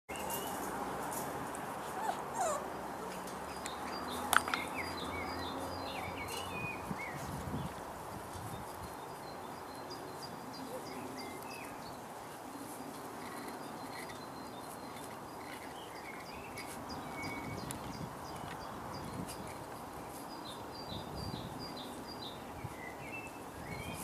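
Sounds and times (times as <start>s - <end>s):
small birds chirping: 0.1s - 24.0s.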